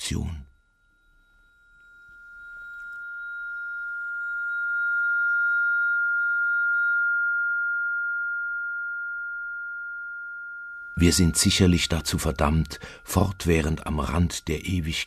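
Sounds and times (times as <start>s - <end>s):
faint higher tones: 0.0s - 15.0s
high-pitched electronic sine tone: 0.5s - 14.2s.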